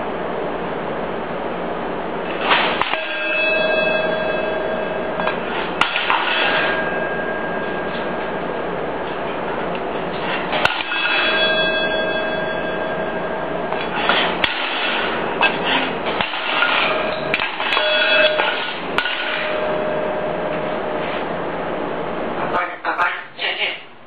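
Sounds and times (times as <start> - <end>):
ringing metallic tone: 2.8 - 22.3.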